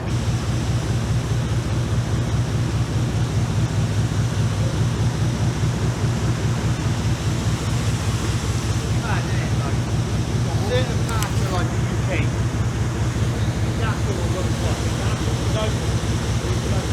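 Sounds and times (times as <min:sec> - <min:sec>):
boat engine droning: 0:00.0 - 0:16.9.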